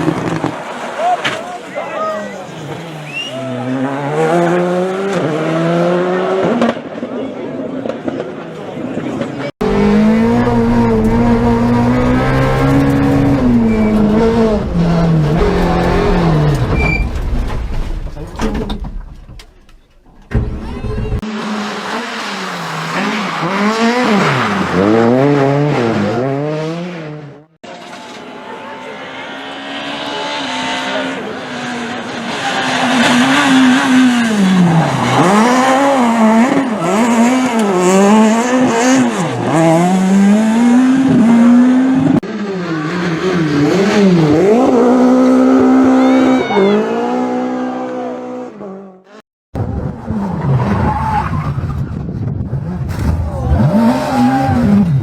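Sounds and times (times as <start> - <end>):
rally car engines revving: 0.0 - 18.7, 20.2 - 55.0.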